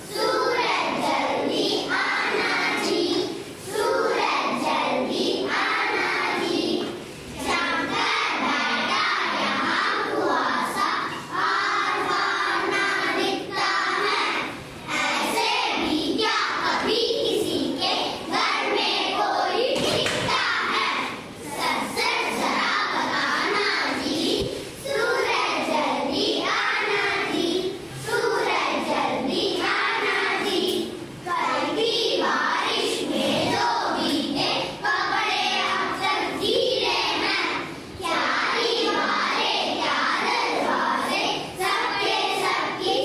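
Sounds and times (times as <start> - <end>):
children chanting in unison: 0.0 - 43.0.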